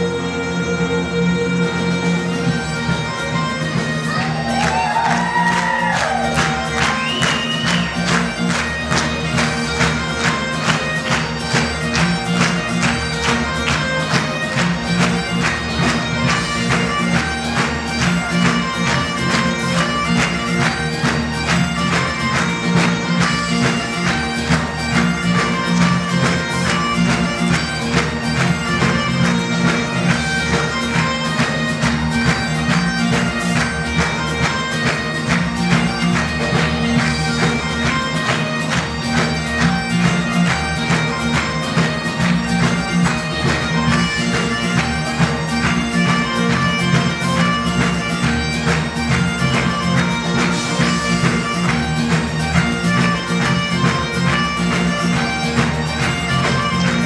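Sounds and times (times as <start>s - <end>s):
bagpipe dance tune: 0.0s - 57.0s.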